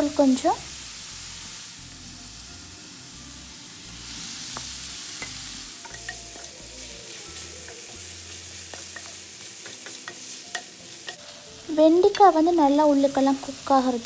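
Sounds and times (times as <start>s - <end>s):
okra sizzling in hot oil: 0.0s - 14.0s.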